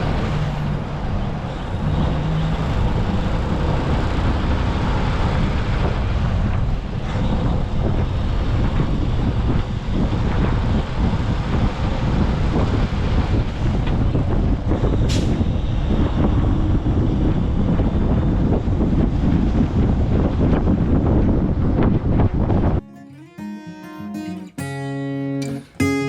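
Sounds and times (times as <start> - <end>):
truck engine rumble: 0.0 - 22.8
wind noise: 0.0 - 24.8.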